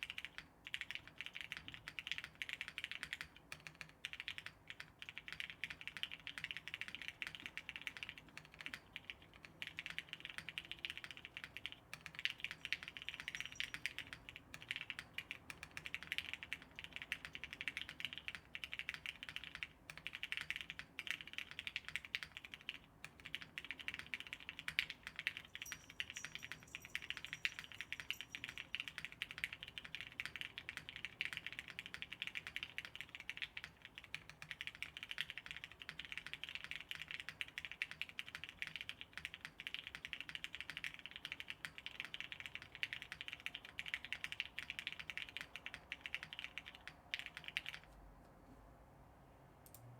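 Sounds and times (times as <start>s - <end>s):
mechanical keyboard typing: 0.0s - 47.9s.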